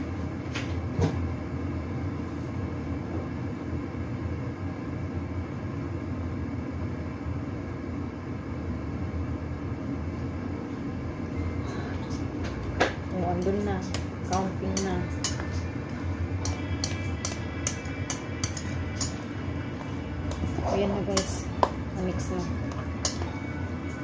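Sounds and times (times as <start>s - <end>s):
low droning hum: 0.0s - 24.0s.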